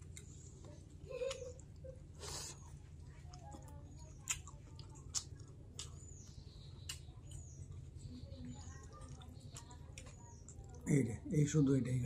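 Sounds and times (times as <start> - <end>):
chewing fried fish: 0.0 - 12.0.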